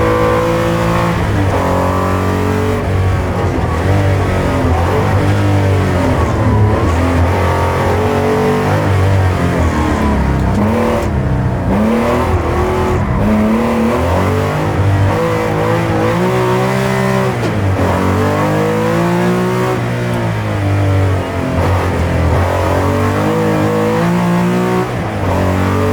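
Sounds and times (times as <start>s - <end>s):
car engine revving under load: 0.0s - 25.9s.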